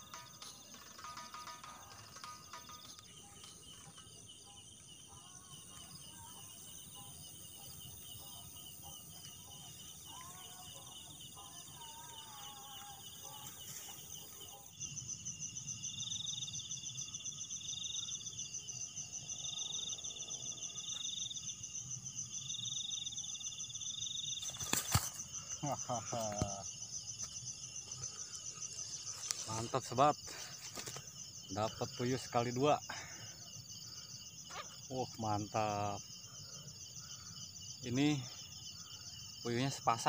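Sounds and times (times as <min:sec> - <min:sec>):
higher pulsing insect: 0:00.0 - 0:40.0
night insects chirring: 0:00.0 - 0:40.0.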